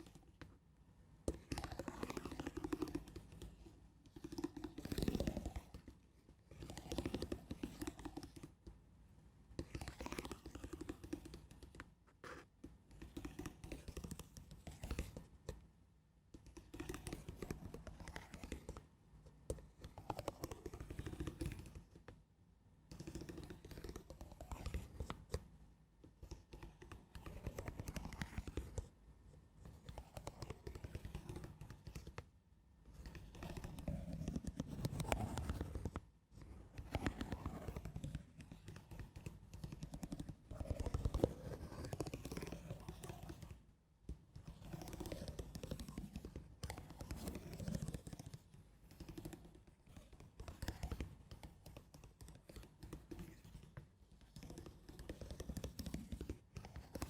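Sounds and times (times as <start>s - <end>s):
soft crackly scratching: 1.3s - 8.5s, 9.6s - 15.3s, 16.5s - 18.9s, 19.5s - 22.1s, 22.9s - 25.5s, 26.2s - 29.0s, 29.6s - 32.3s, 32.9s - 43.6s, 44.4s - 57.0s.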